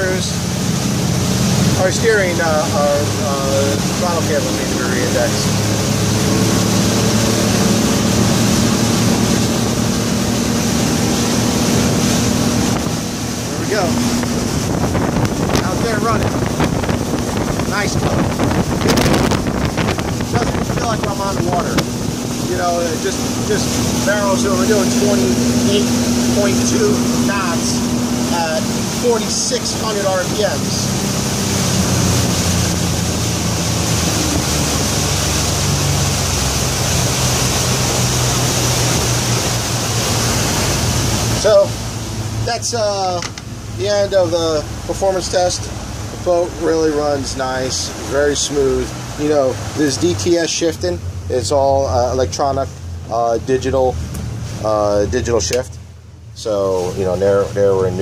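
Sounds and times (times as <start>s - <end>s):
outboard engines drone: 0.0s - 58.0s
rush of wind and water: 0.0s - 58.0s.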